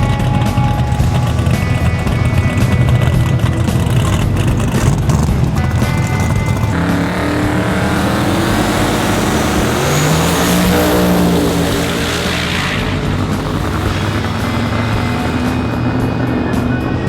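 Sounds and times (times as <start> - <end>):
drag car engine running hard: 0.0 - 17.0.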